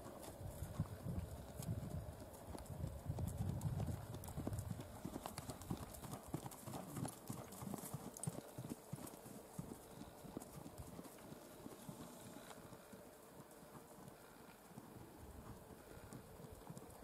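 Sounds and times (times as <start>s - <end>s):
hoofbeats on dirt: 0.0s - 17.0s.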